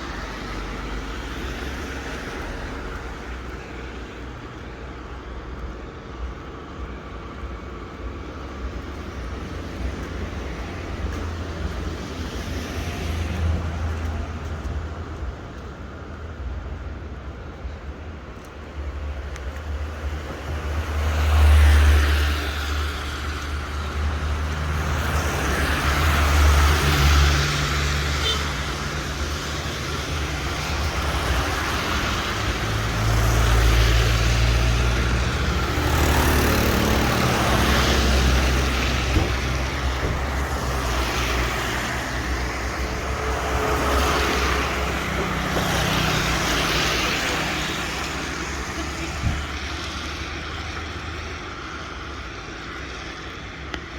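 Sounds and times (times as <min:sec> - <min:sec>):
tyres hissing on wet road: 0:00.0 - 0:53.9.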